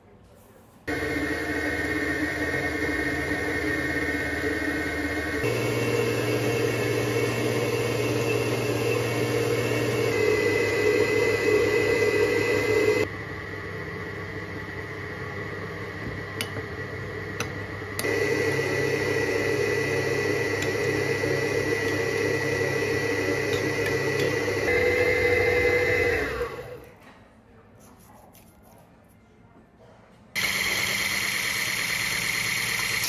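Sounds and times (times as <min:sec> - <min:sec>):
electric stand mixer running: 0:00.9 - 0:26.9, 0:30.4 - 0:33.0.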